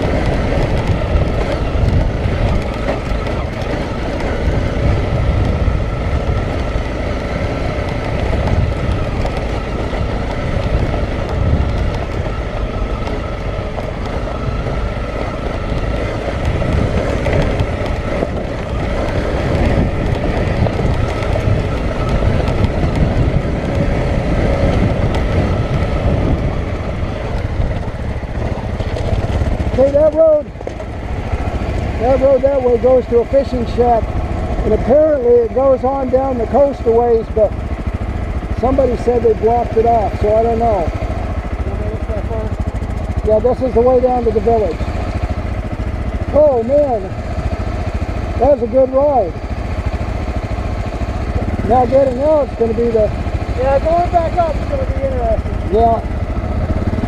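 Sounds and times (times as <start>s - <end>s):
chassis rattling over rocks: 0.0s - 57.0s
motorcycle running at low speed: 0.0s - 57.0s.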